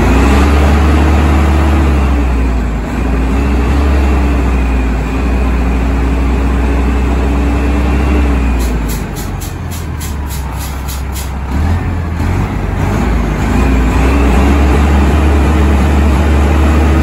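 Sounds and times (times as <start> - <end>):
bus engine droning: 0.0 - 17.0.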